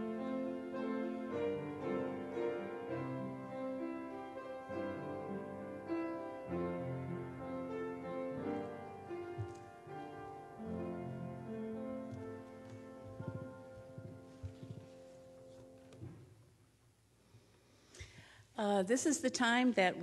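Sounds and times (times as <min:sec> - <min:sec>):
slow church keyboard music: 0:00.0 - 0:17.6.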